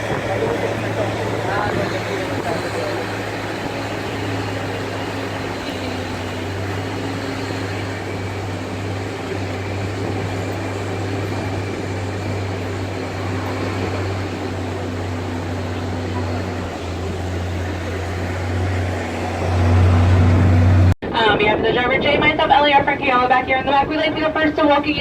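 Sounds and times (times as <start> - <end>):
engine humming: 0.0 - 25.0
road and wind noise: 0.0 - 25.0.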